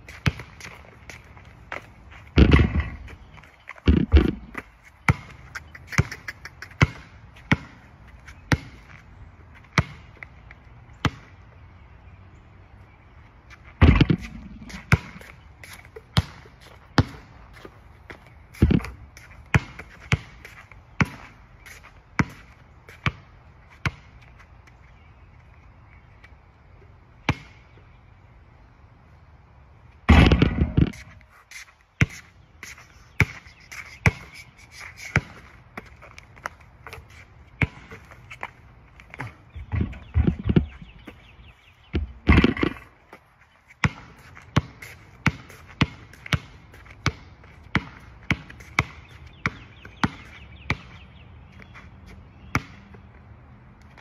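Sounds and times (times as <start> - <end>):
basketball bouncing on asphalt: 0.0 - 11.9, 13.5 - 25.1, 27.2 - 28.0, 30.0 - 31.2, 31.9 - 54.0.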